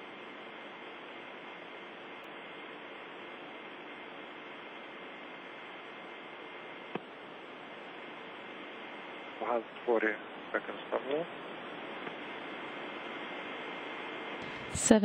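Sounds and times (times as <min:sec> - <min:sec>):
faint hum: 0:00.0 - 0:15.0
radio static hiss: 0:00.0 - 0:15.0.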